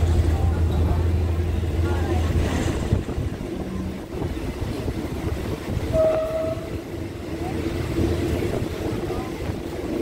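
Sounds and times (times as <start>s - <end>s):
train rumbling on track: 0.0s - 10.0s
wind noise: 1.8s - 10.0s.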